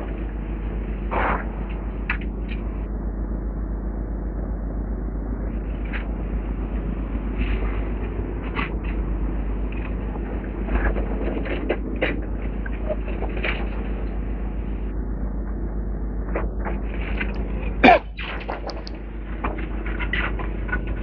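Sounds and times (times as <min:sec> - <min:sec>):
machinery engine rumble: 0:00.0 - 0:21.0.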